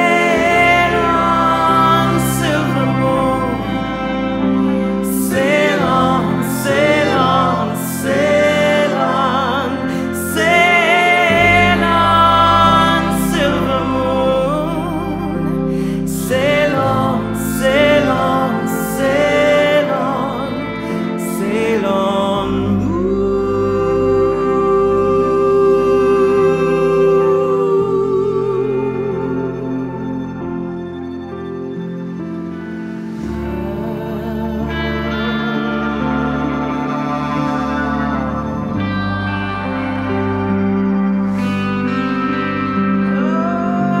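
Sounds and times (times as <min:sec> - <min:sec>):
band playing slow song live: 0:00.0 - 0:44.0
person singing with vibrato: 0:00.0 - 0:44.0.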